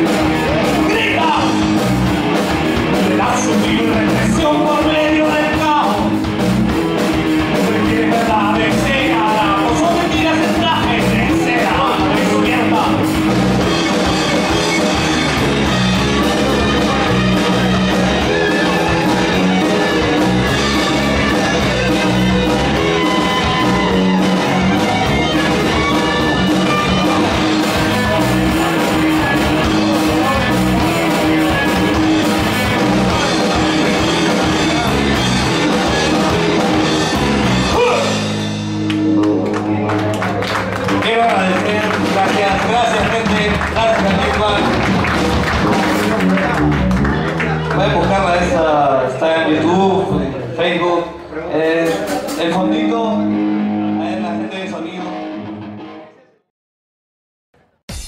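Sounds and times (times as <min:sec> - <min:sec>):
rock band playing live: 0:00.0 - 0:56.2.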